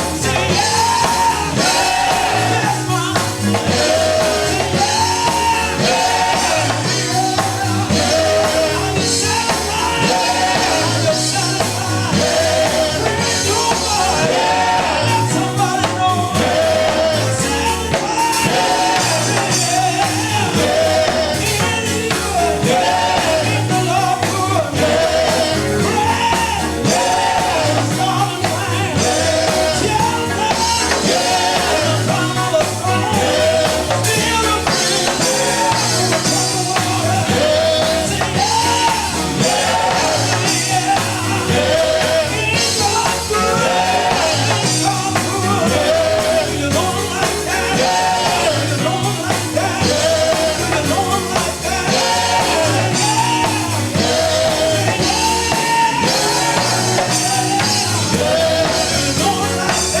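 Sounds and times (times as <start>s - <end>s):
bass line: 0.0s - 60.0s
drums: 0.0s - 60.0s
gospel group singing: 0.0s - 60.0s.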